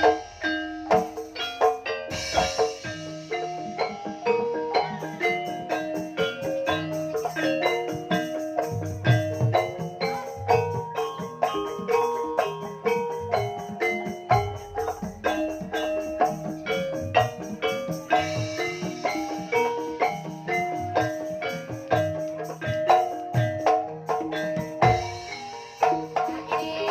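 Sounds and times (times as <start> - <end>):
gamelan keyed instruments ringing: 0.0 - 26.9
low hand-drum strokes: 0.0 - 26.9.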